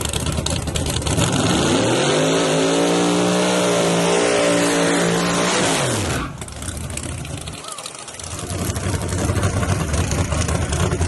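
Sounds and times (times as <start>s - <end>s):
drag car engine revving: 0.0s - 11.0s.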